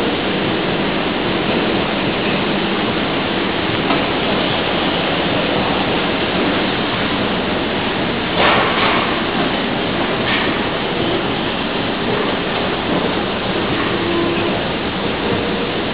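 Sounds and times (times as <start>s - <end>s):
moving walkway running: 0.0s - 15.9s.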